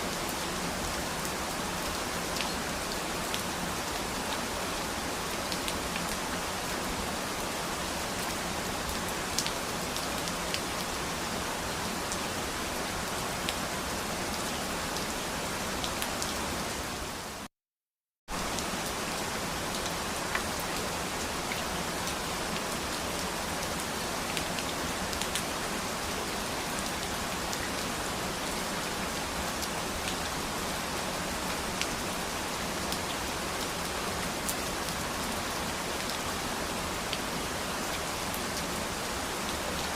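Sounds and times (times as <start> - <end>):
steady rain falling: 0.0 - 17.5, 18.3 - 39.9.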